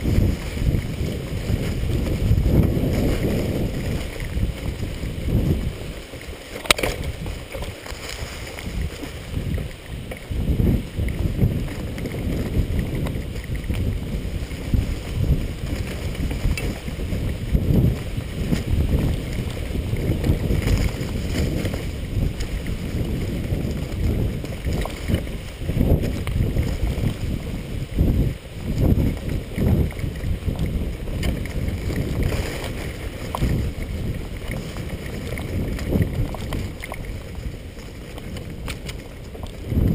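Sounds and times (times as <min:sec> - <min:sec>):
bike knocking: 0:00.0 - 0:39.9
wind buffeting microphone: 0:00.0 - 0:39.9.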